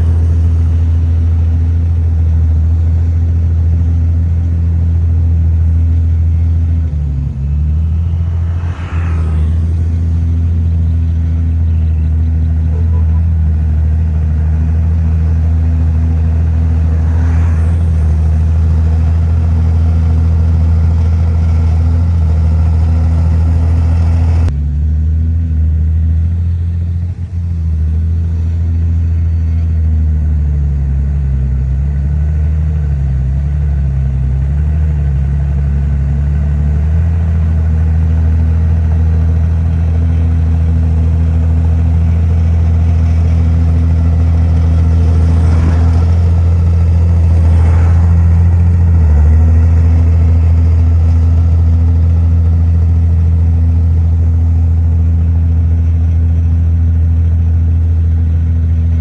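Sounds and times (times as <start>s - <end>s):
heavy diesel engine humming: 0.0s - 59.0s.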